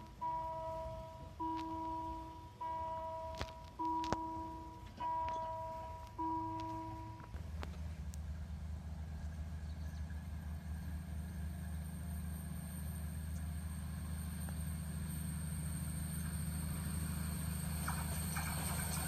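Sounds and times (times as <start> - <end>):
diesel train engine rumbling: 0.0 - 19.0.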